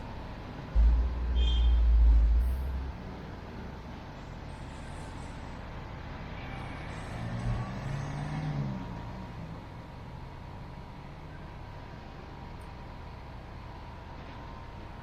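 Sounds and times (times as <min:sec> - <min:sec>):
engine hum: 0:00.0 - 0:15.0
traffic noise: 0:00.0 - 0:15.0.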